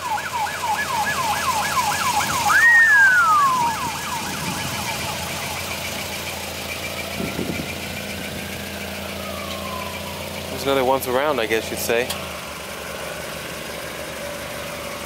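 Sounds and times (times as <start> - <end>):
emergency siren yelping: 0.0 - 11.6, 13.9 - 15.0.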